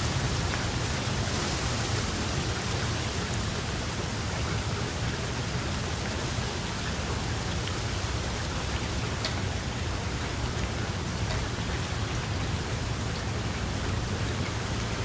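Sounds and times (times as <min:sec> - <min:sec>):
steady rain hiss: 0:00.0 - 0:15.0
raindrops ticking: 0:02.0 - 0:15.0.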